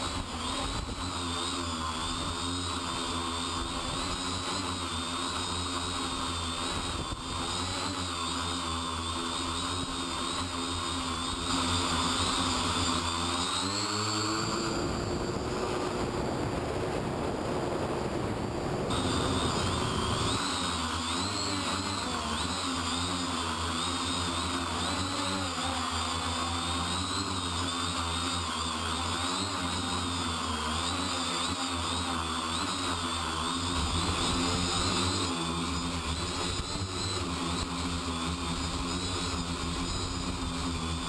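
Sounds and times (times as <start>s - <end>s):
drone motors whining: 0.0s - 41.0s.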